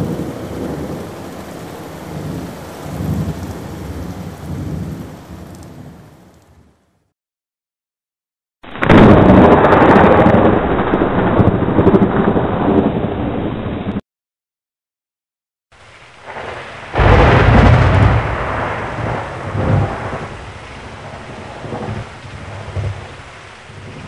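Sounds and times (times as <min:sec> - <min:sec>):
thunder rumbling: 0:00.0 - 0:06.7, 0:08.6 - 0:14.0, 0:15.9 - 0:24.0
rain: 0:00.0 - 0:07.1, 0:08.6 - 0:14.0, 0:15.7 - 0:24.0.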